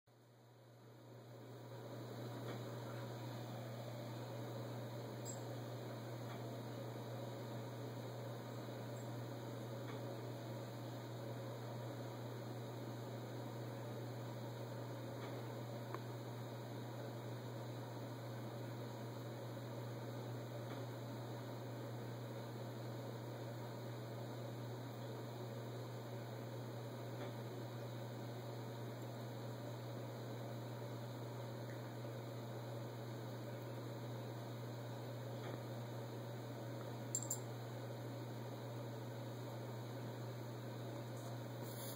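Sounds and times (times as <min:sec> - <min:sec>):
low electrical hum: 0:00.1 - 0:41.9.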